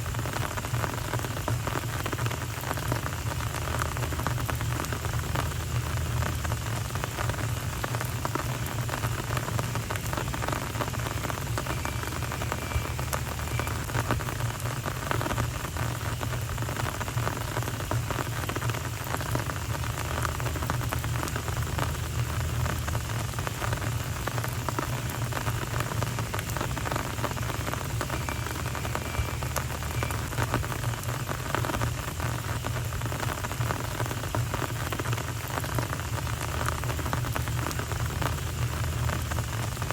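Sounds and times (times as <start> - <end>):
rain on pavement: 0.0 - 39.9.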